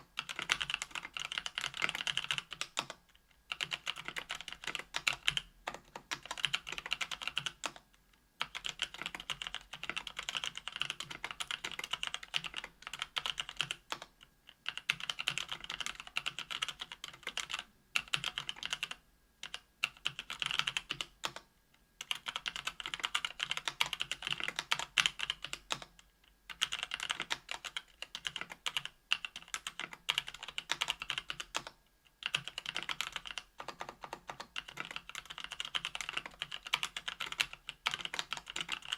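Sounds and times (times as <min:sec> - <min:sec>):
fast typing on keyboard: 0:00.1 - 0:21.4, 0:22.0 - 0:38.9.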